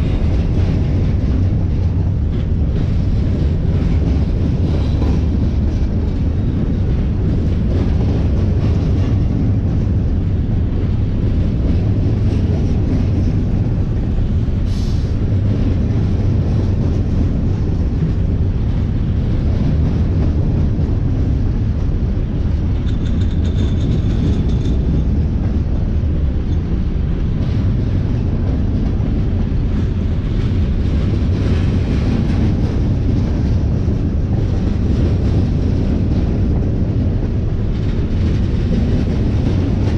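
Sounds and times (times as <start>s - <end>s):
train passing rumble: 0.0s - 39.9s.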